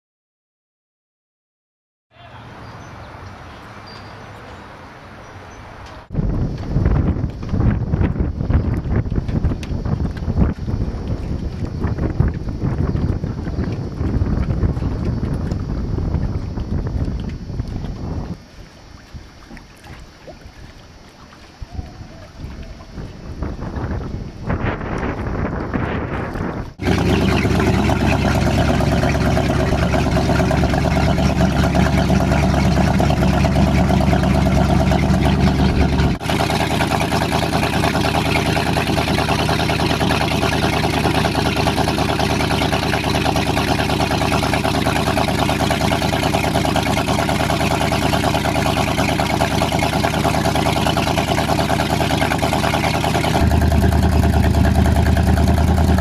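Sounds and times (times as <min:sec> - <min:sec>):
boat engine running: 0:06.0 - 0:18.9, 0:19.6 - 0:56.0.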